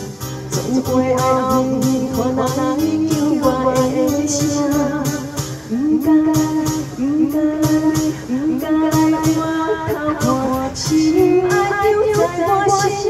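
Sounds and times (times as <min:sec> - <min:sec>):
instrumental accompaniment with beat: 0:00.0 - 0:13.0
woman singing a slow ballad: 0:00.5 - 0:13.0.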